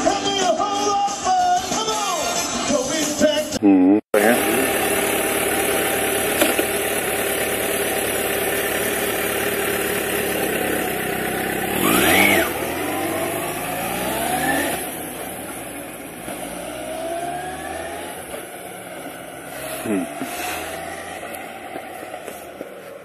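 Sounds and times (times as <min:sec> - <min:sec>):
motorcycle engine revving: 0:04.2 - 0:23.0.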